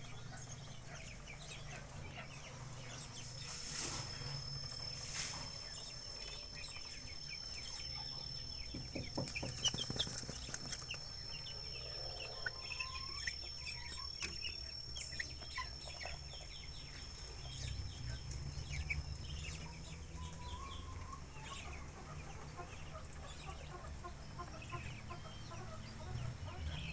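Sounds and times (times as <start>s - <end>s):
chickens clucking: 0.0s - 26.9s.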